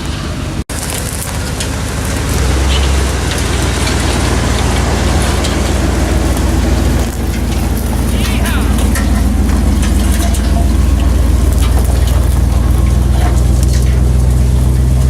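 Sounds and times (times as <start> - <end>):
vehicle engine running: 0.0 - 15.0
crackles and snaps: 0.7 - 15.0.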